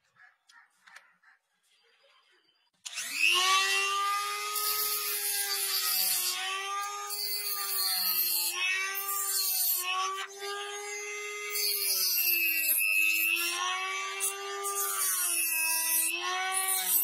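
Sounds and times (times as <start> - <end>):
rotary tool motor whining: 2.8 - 17.0.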